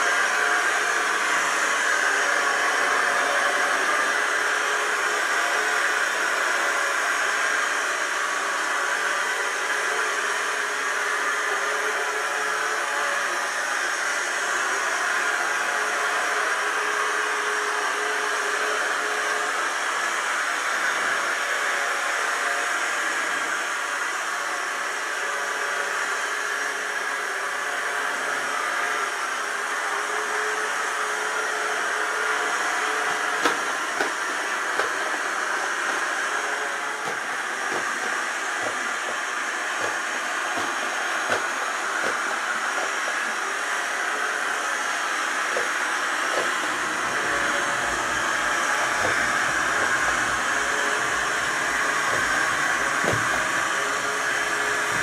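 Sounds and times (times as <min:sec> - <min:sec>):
robot vacuum cleaner whirring: 0:00.0 - 0:55.0.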